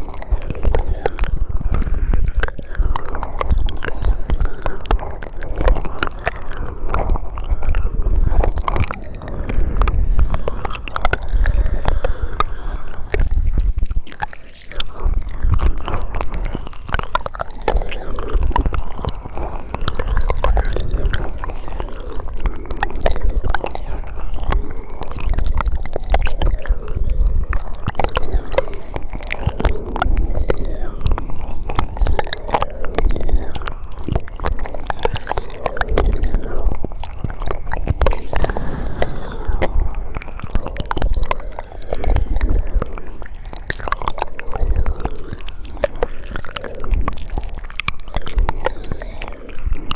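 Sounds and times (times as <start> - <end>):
wet mouth clicks and smacks: 0.0 - 49.9.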